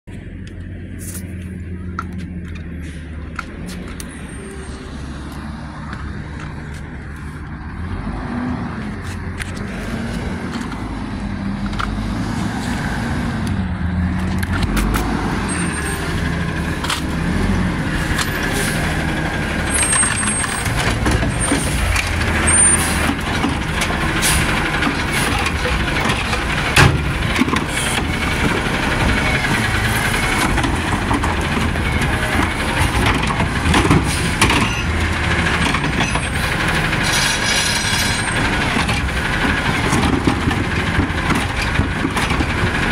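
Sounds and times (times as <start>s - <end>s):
garbage truck engine revving: 7.6s - 42.9s.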